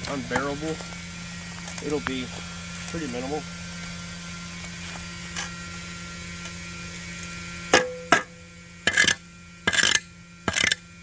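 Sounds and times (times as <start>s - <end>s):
pump humming: 0.0s - 11.0s.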